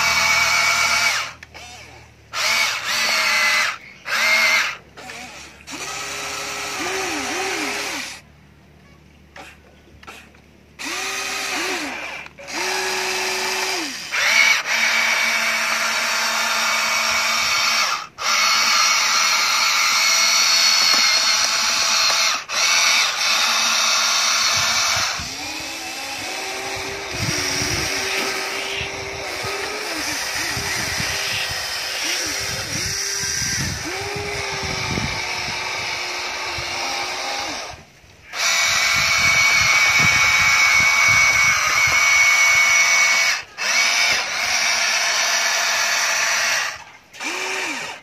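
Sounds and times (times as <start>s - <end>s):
toy excavator motors whining: 0.0s - 48.0s.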